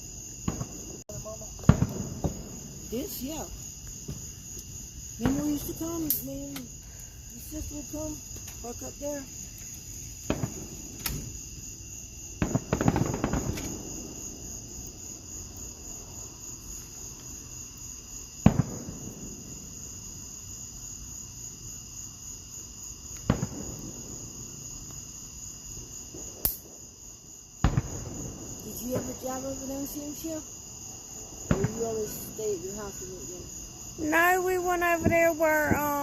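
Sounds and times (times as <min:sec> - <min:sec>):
fireworks bangs and crackling: 0:00.0 - 0:17.4, 0:18.1 - 0:20.2, 0:23.0 - 0:25.1, 0:25.8 - 0:27.0, 0:27.6 - 0:30.4, 0:31.2 - 0:36.0
crickets chirping: 0:00.0 - 0:36.0.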